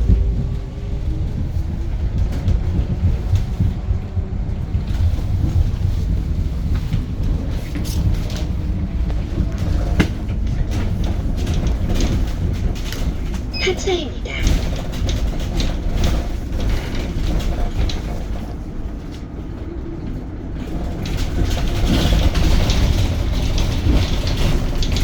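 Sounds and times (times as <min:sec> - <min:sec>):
bus body rattles and clicks: 0:00.0 - 0:25.0
road and tyre rumble: 0:00.0 - 0:25.0.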